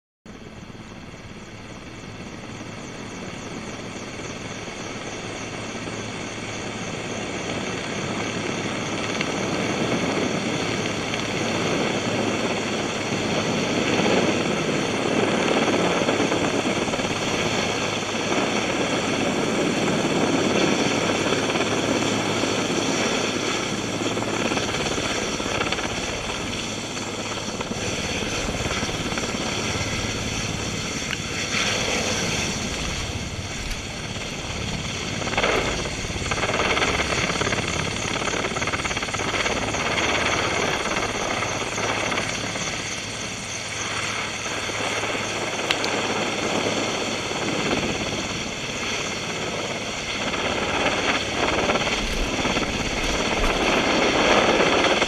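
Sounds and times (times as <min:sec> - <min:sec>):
helicopter hovering: 0:00.3 - 0:55.0.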